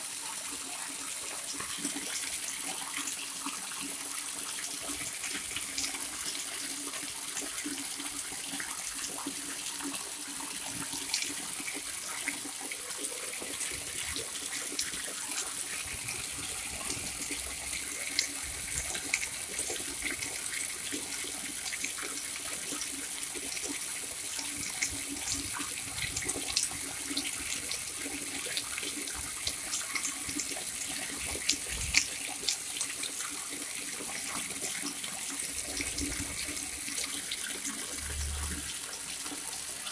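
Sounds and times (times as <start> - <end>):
water pouring and splashing: 0.0 - 39.9
small splashes and drips: 1.4 - 39.9.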